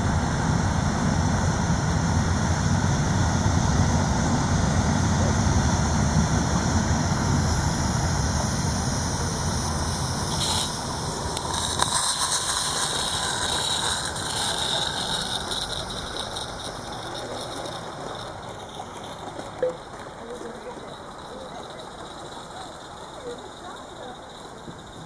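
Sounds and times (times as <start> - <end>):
rapid ticking of wheels: 0.0 - 25.0
steady low rumble: 0.0 - 25.0
steam hissing: 0.0 - 25.0.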